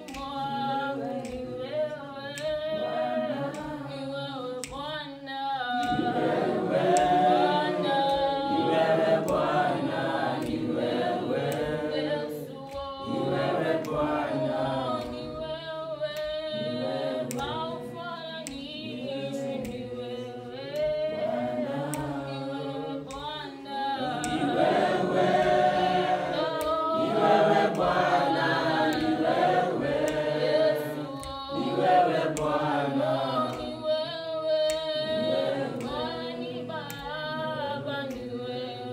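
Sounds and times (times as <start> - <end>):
choir singing unaccompanied: 0.0 - 38.9.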